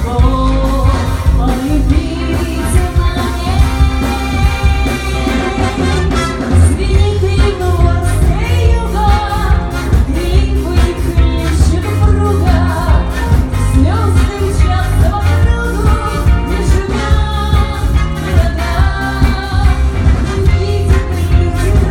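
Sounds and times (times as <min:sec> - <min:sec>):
band playing pop song: 0:00.0 - 0:21.9
person singing: 0:00.0 - 0:21.9.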